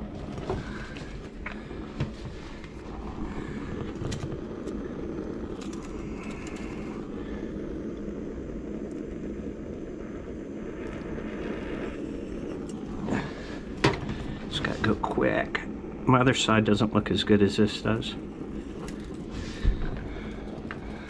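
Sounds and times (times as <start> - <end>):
butane torch flame rushing: 0.0 - 21.0.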